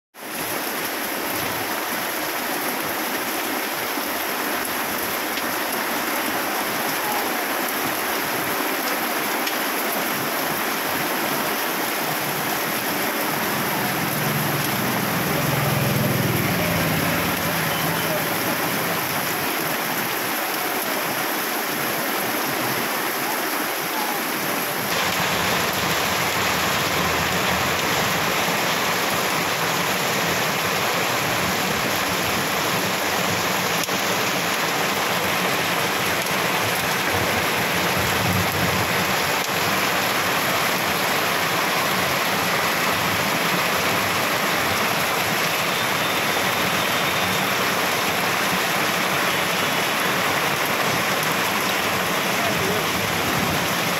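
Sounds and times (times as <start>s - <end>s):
heavy rain pouring on road: 0.2s - 53.9s.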